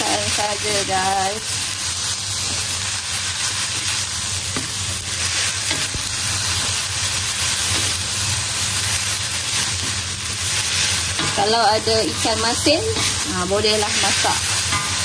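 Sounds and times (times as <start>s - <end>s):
vegetables sizzling while stir-fried: 0.0s - 15.0s.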